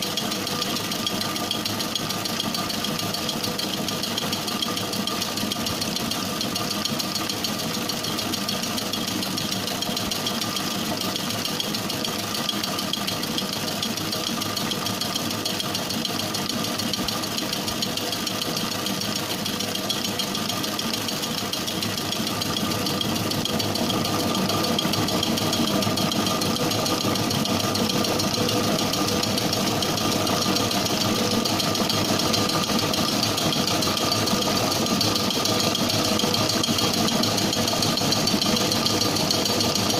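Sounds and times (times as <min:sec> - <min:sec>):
stand mixer motor humming: 0:00.0 - 0:39.9.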